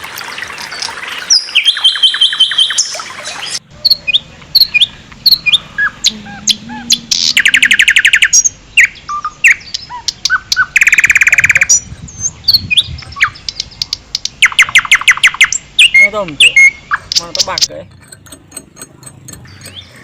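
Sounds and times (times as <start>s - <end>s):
songbirds chirping: 0.0s - 20.0s
fast bird trills: 0.4s - 17.7s.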